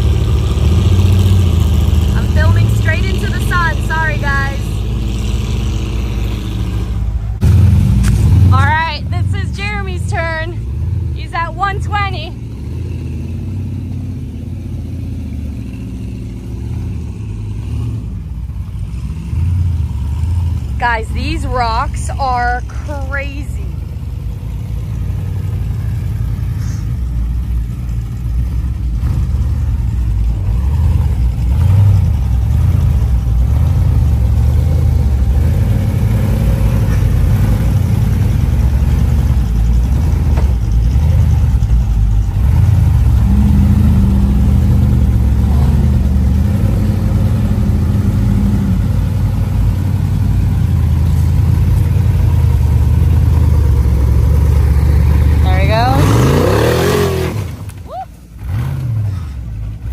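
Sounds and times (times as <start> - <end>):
off-road vehicle engine at low revs: 0.0 - 59.9.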